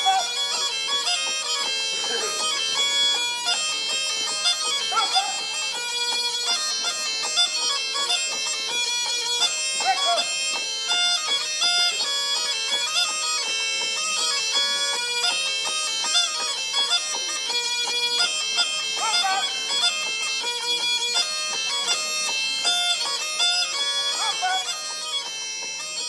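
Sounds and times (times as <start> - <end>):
bagpipe playing folk tune: 0.0 - 26.0.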